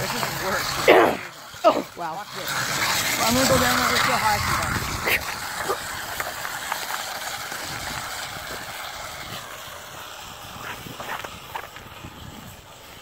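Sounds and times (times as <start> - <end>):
wheels sliding over icy snow: 0.0 - 13.0.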